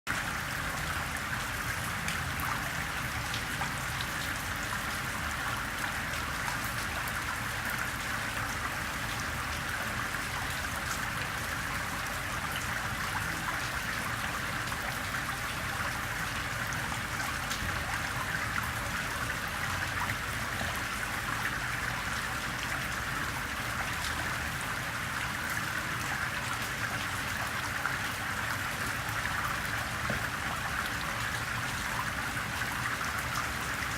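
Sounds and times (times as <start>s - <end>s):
gentle rain: 0.1s - 33.9s
water trickling on pebbles: 0.1s - 33.9s.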